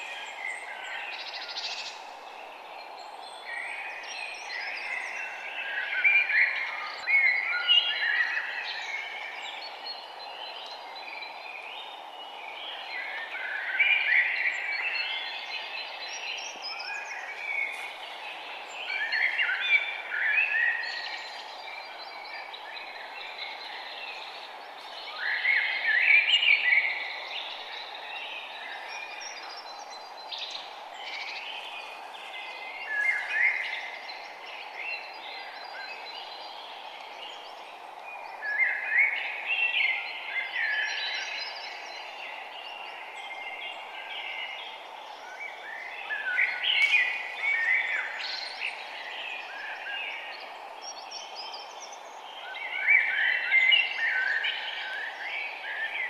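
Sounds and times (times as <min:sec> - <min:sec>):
background hiss: 0:00.0 - 0:56.0
forest birds singing: 0:00.0 - 0:56.0.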